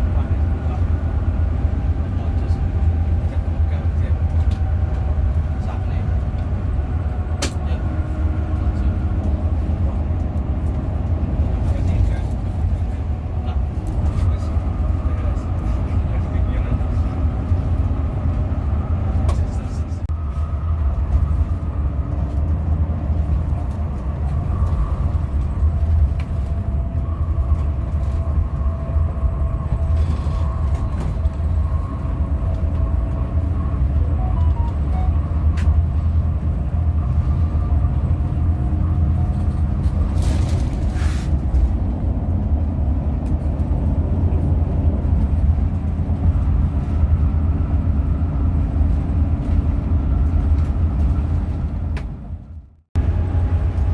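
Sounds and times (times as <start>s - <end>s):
coach engine drone and road rumble: 0.0s - 53.9s.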